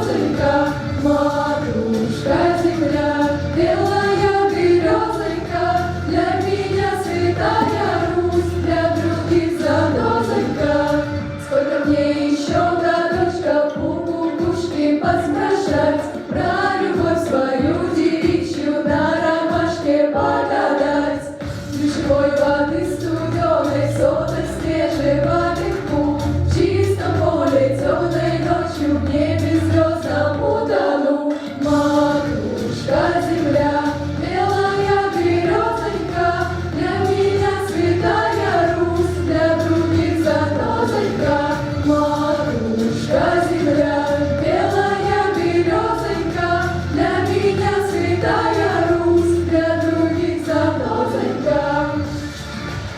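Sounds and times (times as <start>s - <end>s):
vocal ensemble singing: 0.0s - 52.9s.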